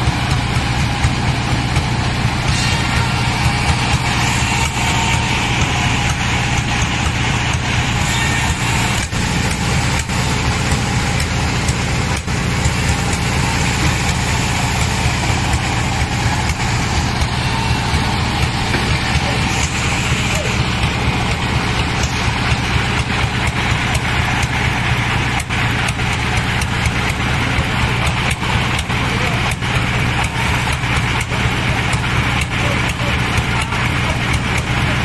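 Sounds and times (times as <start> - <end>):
machinery engine droning: 0.0 - 35.0.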